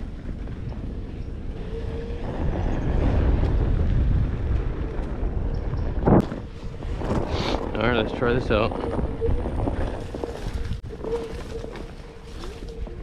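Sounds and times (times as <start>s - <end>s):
wheel rolling on dirt trail: 0.0s - 13.0s
wind buffeting microphone: 0.0s - 13.0s.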